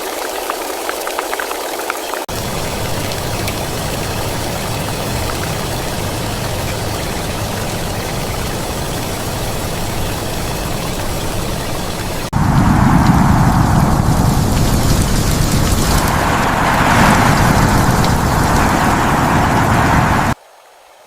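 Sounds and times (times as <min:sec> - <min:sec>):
heavy rain: 0:00.0 - 0:20.4
rain-like hiss: 0:00.0 - 0:21.0
vehicle engine running: 0:02.4 - 0:20.4.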